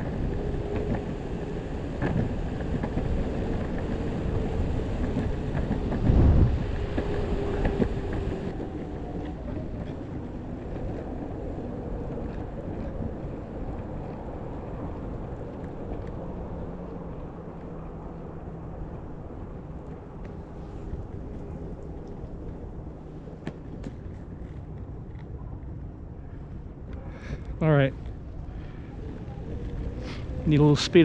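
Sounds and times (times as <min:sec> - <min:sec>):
wheel rumble: 0:00.0 - 0:31.0
wind buffeting microphone: 0:00.0 - 0:31.0.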